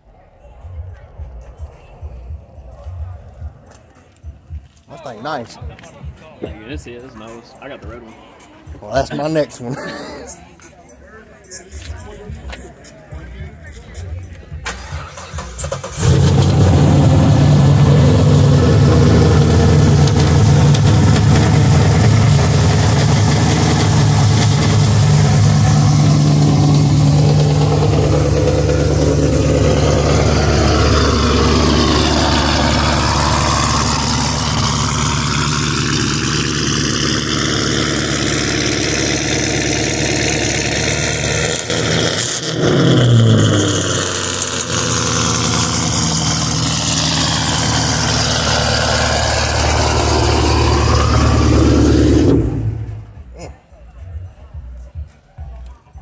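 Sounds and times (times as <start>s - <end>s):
car engine idling and revving: 0.0s - 6.0s, 10.5s - 56.0s.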